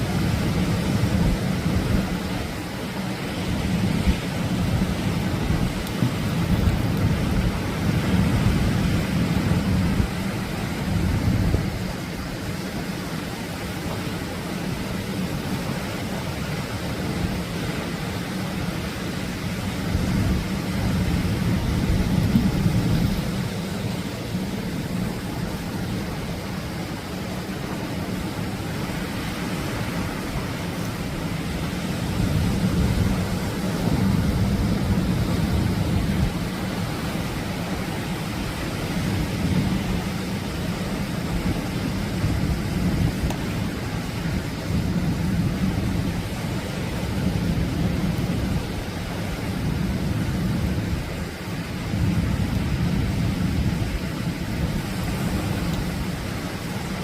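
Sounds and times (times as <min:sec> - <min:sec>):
ocean waves roaring: 0:00.0 - 0:57.0
surf breaking on shore: 0:00.0 - 0:57.0.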